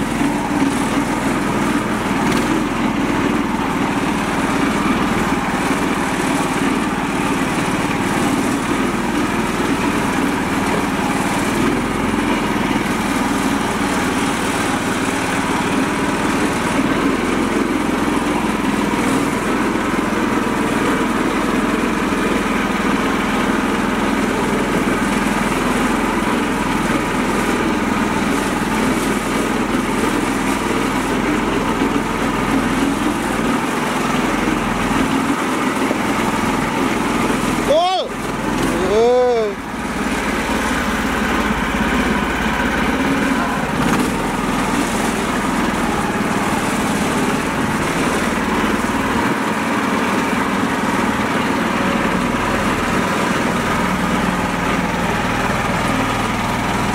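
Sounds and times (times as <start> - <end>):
small tractor engine running: 0.0 - 56.9.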